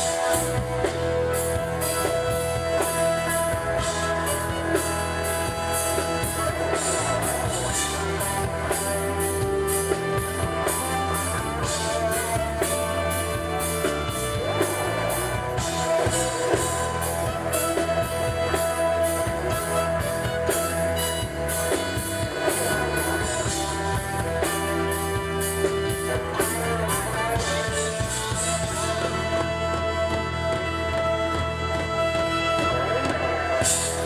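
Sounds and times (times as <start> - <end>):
live band playing dance beat: 0.0 - 34.0.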